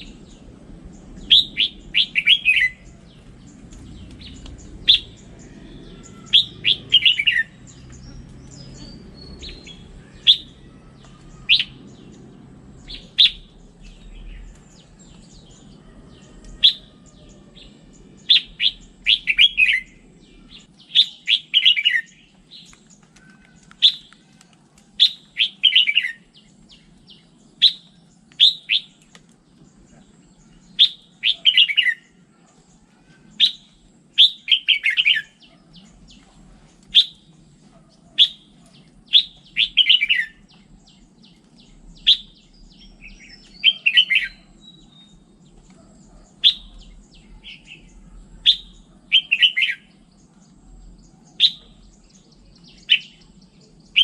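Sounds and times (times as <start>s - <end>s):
bulbul singing: 0.0s - 24.4s, 25.0s - 54.0s.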